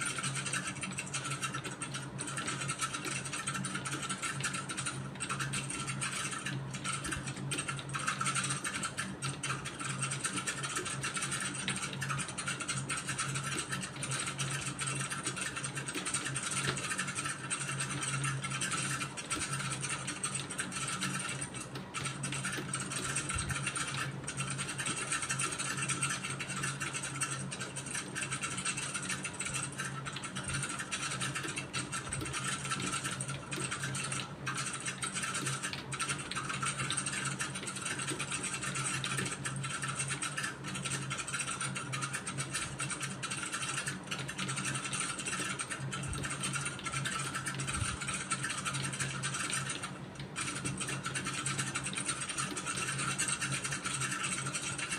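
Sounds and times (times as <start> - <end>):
keyboard typing: 0.0 - 54.9.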